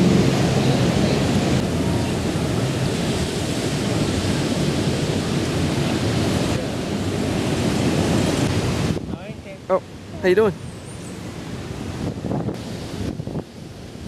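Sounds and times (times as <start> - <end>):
ocean surf washing on beach: 0.0 - 14.0
wind rumbling on microphone: 0.0 - 14.0.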